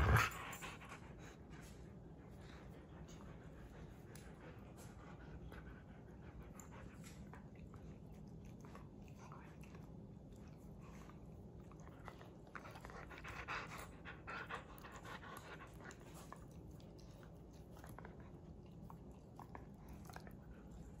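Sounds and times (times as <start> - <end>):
dogs mouthing and licking: 0.0 - 21.0
dogs panting: 0.0 - 21.0.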